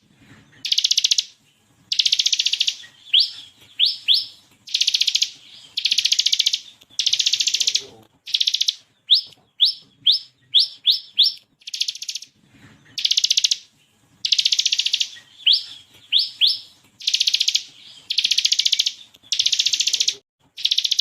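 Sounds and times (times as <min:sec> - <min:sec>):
bird chirping and trilling: 0:00.5 - 0:21.0.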